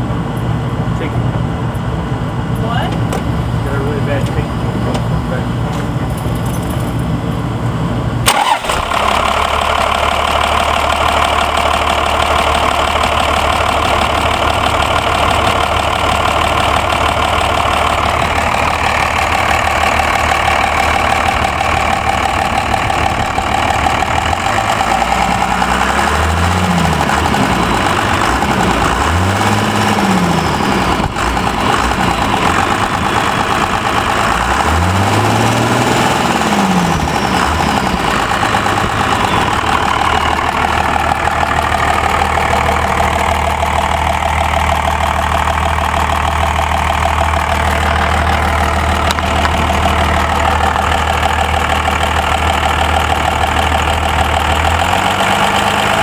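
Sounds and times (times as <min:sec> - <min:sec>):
diesel engine revving: 0:00.0 - 0:56.0
diesel engine ticking: 0:00.0 - 0:56.0.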